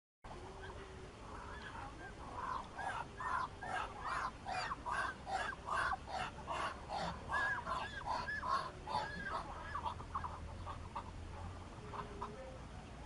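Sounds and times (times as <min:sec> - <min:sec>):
ducks calling: 0:00.3 - 0:12.6.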